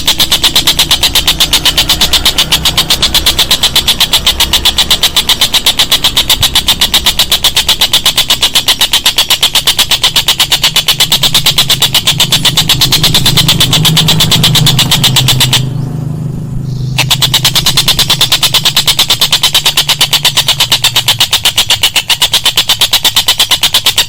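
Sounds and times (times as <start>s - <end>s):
low hum: 0.0s - 22.6s
rapid high-pitched chirps: 0.0s - 24.0s.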